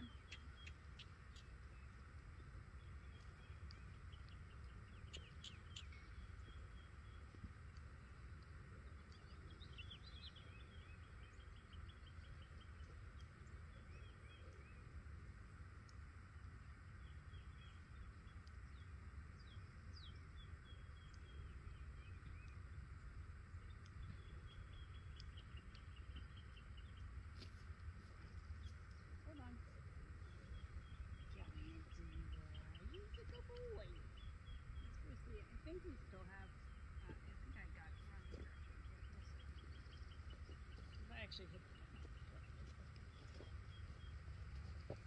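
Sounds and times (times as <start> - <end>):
distant birds chirping: 0.0 - 14.9, 16.7 - 45.0
low steady rumble: 0.0 - 45.0.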